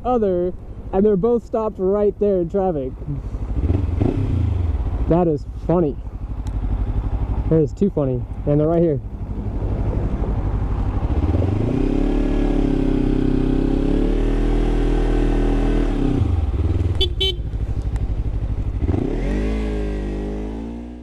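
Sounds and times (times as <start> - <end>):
motorcycle engine revving: 3.0 - 21.0.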